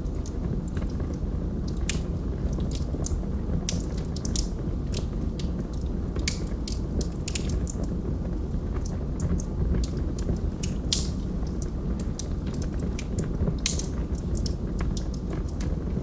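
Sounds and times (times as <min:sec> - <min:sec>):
fire flames rumbling: 0:00.0 - 0:16.0
logs crackling and popping: 0:00.0 - 0:16.0.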